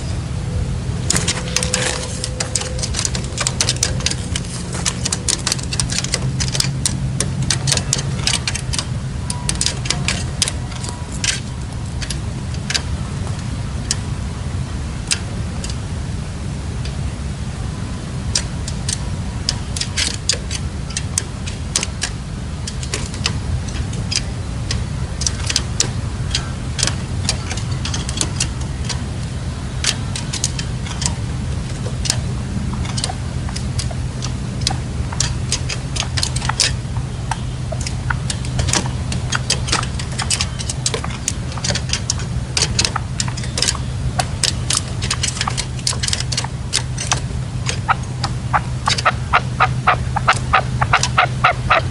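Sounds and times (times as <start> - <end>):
steady low rumble: 0.0 - 51.9
partridges clicking calls: 1.0 - 13.2, 18.3 - 51.9.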